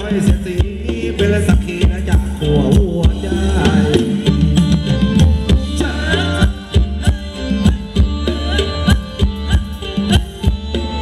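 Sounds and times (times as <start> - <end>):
live band dance music: 0.0 - 11.0.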